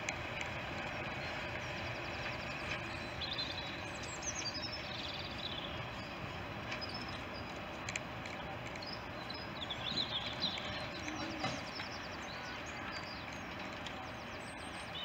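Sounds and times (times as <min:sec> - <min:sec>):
diesel locomotive rumbling: 0:00.0 - 0:15.0
small birds chirping: 0:00.0 - 0:15.0.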